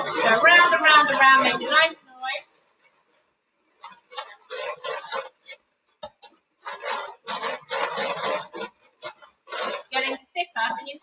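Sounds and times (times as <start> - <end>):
beaters scraping against glass: 0.0 - 11.0.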